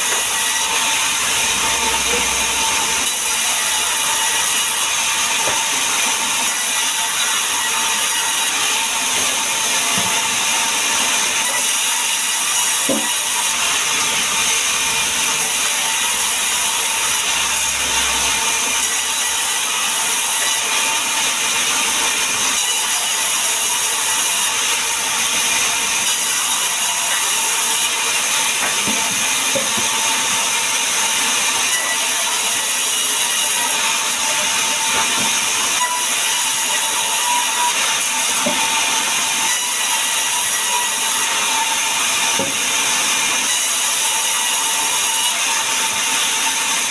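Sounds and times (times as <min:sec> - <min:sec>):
band saw cutting log: 0:00.0 - 0:46.9.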